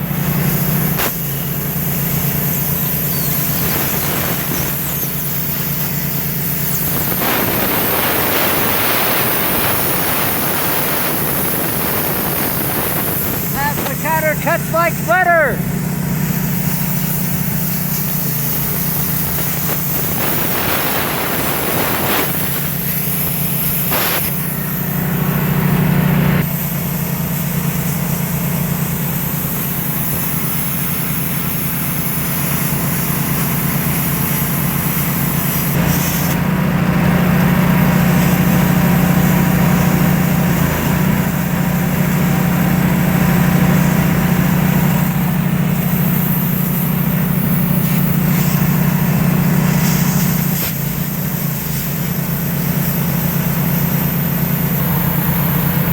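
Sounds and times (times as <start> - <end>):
plasma cutter hissing: 0.0 - 36.5, 37.3 - 55.9
generator engine running: 0.0 - 55.9.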